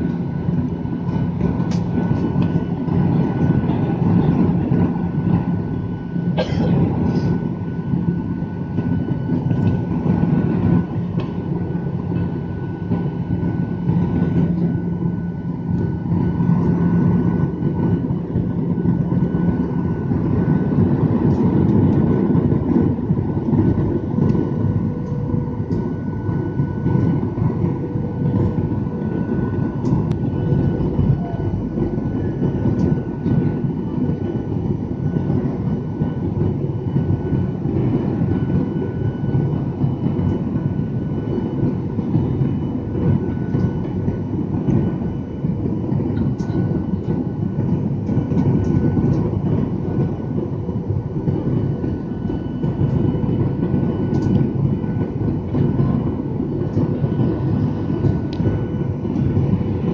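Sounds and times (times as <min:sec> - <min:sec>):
jet engine rumble and rushing air: 0:00.0 - 0:59.9.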